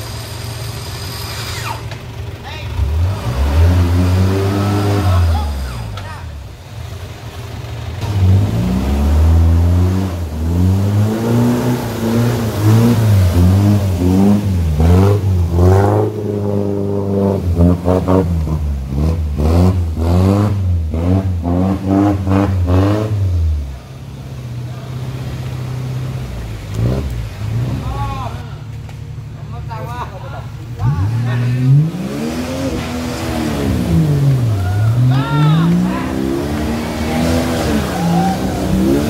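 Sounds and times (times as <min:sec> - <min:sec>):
off-road engine revving: 0:00.0 - 0:39.0.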